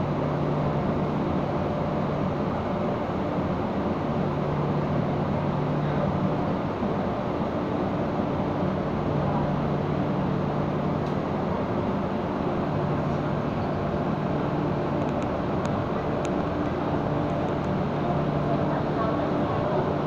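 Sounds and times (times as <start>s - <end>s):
metro train wheels rumbling: 0.0s - 20.0s.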